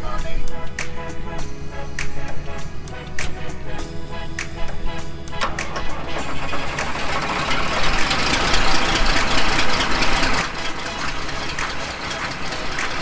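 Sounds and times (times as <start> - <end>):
tractor diesel engine running: 2.6 - 13.0.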